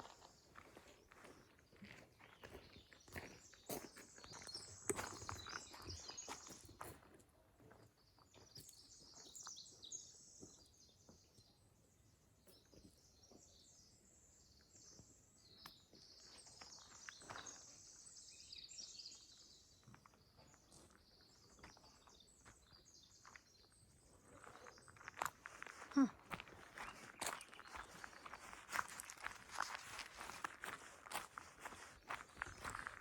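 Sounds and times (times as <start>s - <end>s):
faint high-pitched bird chirps: 0.0s - 6.9s, 8.2s - 11.6s, 12.4s - 33.0s
soft footsteps on trail: 0.0s - 11.4s, 14.5s - 33.0s.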